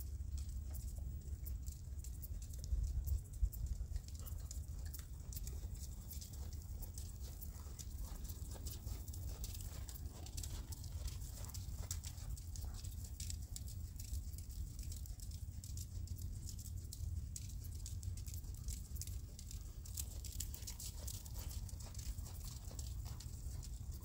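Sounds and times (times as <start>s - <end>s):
hooves trotting on sand: 0.0s - 24.0s.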